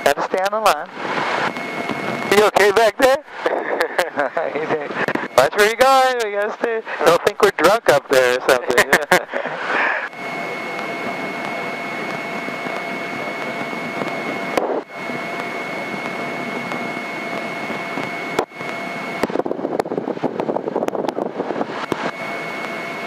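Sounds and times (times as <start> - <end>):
high whine: 0.0 - 23.0
propeller plane engine: 0.0 - 23.0.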